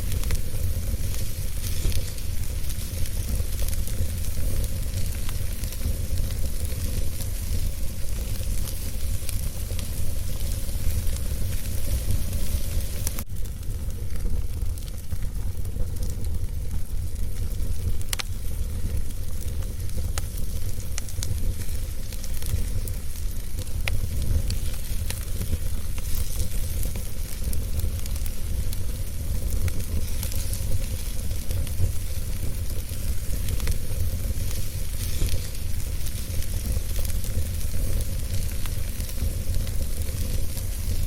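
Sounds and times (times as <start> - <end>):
log fire crackling: 0.0 - 41.0
low rumble and hiss: 0.0 - 41.0.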